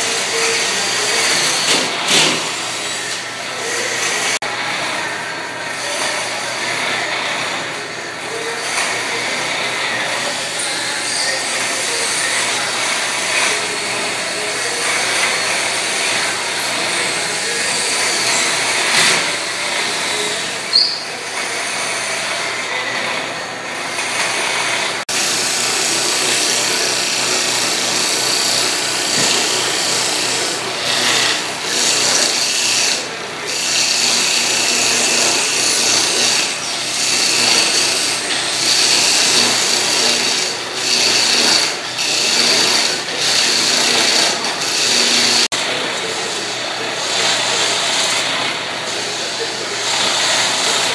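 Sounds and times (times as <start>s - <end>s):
lathe motor hum: 0.0s - 50.9s
turning tool scraping wood: 8.5s - 23.3s, 23.9s - 45.7s, 46.5s - 50.9s.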